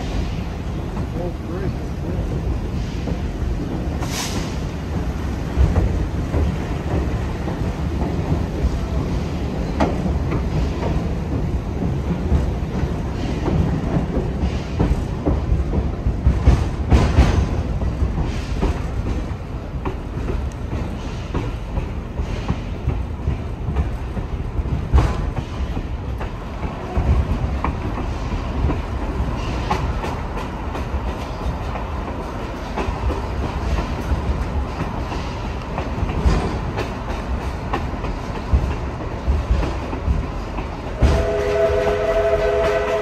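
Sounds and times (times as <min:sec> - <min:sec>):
train wheels rumbling on rail: 0:00.0 - 0:43.0
wheels clacking on track: 0:00.0 - 0:43.0.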